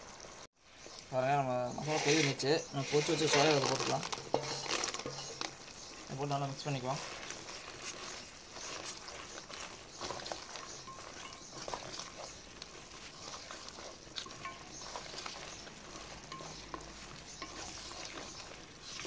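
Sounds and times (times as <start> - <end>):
light sizzle: 0.0 - 19.0
wet stirring in sauce: 0.0 - 19.0
spatula scraping and tapping pan: 1.7 - 19.0.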